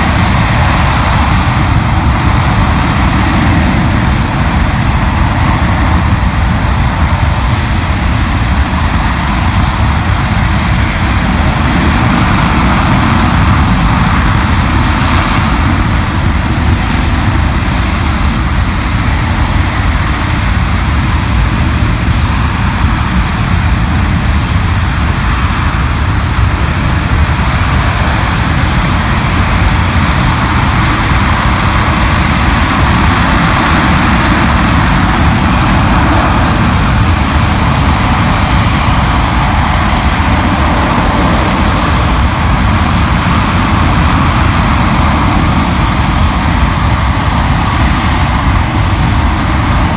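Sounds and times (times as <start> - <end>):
rocket engine firing: 0.0 - 49.9.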